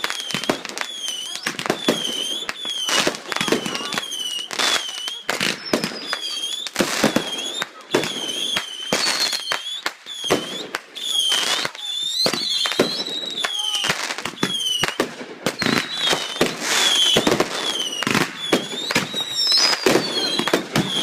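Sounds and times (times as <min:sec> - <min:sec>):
fireworks bangs: 0:00.0 - 0:21.0
whistling fireworks: 0:00.0 - 0:21.0.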